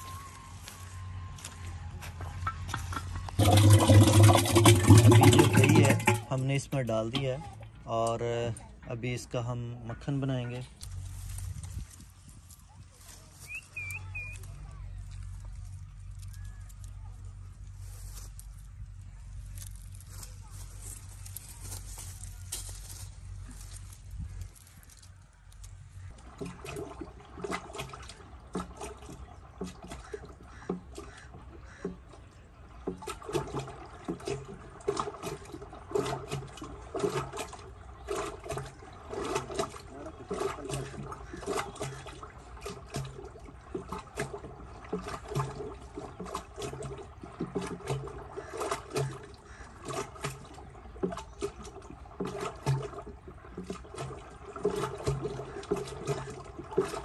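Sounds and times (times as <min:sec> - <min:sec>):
liquid sloshing in a wooden churn: 0:00.0 - 0:57.0.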